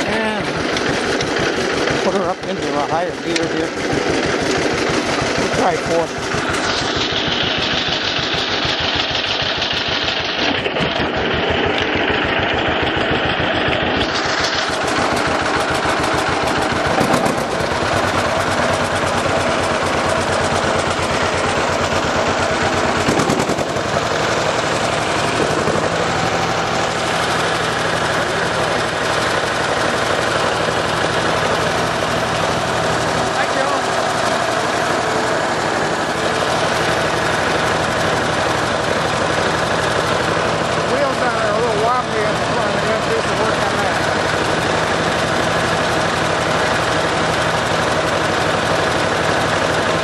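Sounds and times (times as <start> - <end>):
tractor engine firing: 0.0 - 50.0.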